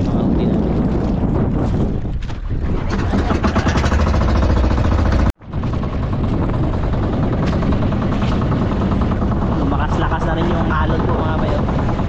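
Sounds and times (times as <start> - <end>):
wind on microphone: 0.0 - 12.0
boat engine running: 0.2 - 12.0.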